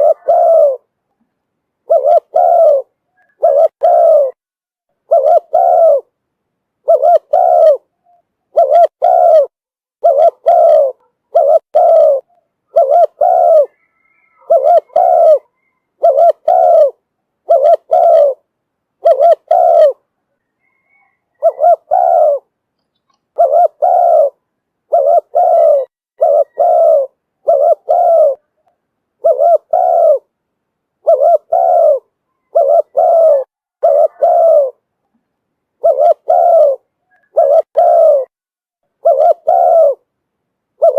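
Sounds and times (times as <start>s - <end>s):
dove cooing: 0.0s - 1.0s, 1.8s - 4.4s, 5.0s - 6.1s, 6.8s - 22.5s, 23.3s - 30.3s, 31.0s - 34.8s, 35.8s - 38.3s, 38.9s - 40.1s.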